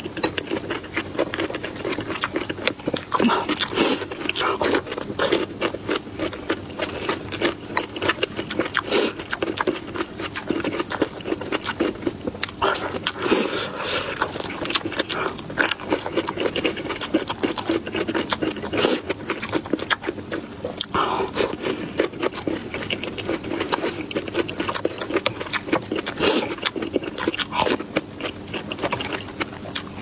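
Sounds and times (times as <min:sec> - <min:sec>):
chewing and mouth sounds: 0:00.0 - 0:30.0.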